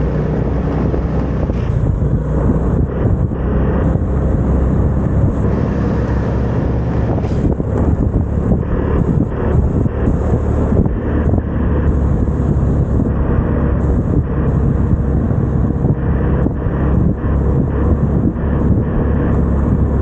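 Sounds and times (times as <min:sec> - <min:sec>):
scooter engine running: 0:00.0 - 0:20.0
wind buffeting microphone: 0:00.0 - 0:20.0.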